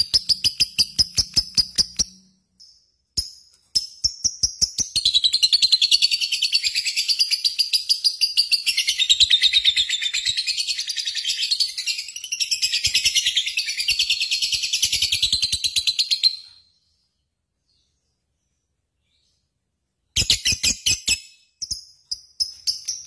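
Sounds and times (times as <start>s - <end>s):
bird chirping rapidly: 0.0s - 16.6s, 20.2s - 23.0s.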